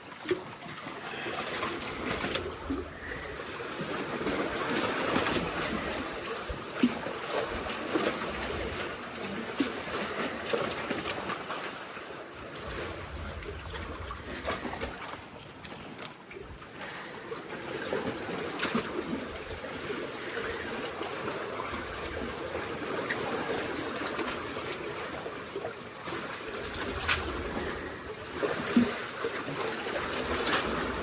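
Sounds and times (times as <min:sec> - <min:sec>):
seawater lapping among blocks: 0:00.0 - 0:31.0.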